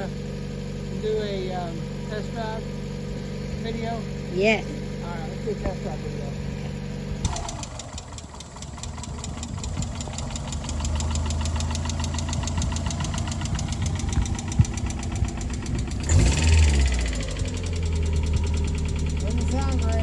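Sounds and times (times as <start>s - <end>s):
car engine ticking: 0.0s - 20.0s.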